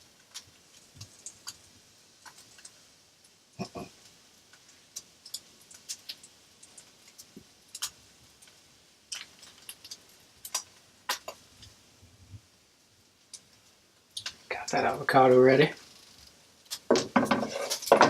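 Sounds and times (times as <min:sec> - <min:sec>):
sharp clicks and crackles: 0:00.1 - 0:11.8, 0:13.2 - 0:18.0.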